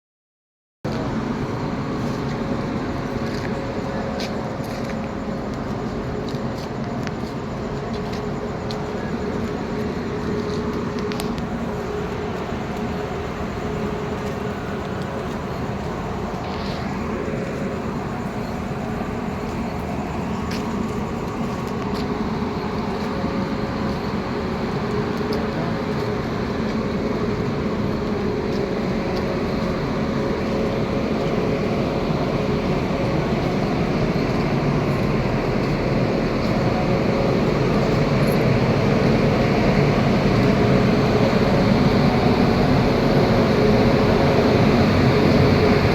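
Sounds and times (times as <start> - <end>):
vehicle engine rumble: 0.9 - 45.9.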